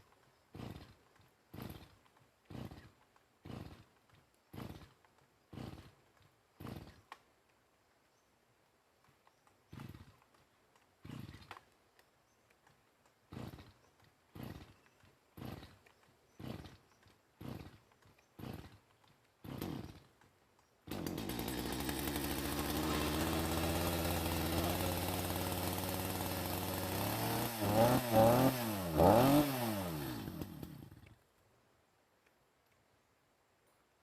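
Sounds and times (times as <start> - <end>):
chainsaw engine idling and revving: 0.1 - 7.2, 9.0 - 31.2
chainsaw recoil starter pulls: 0.1 - 7.2, 9.0 - 31.2.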